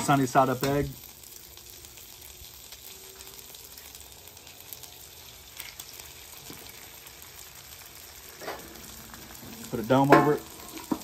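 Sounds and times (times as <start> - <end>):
butter and egg sizzling on griddle: 0.0 - 11.0.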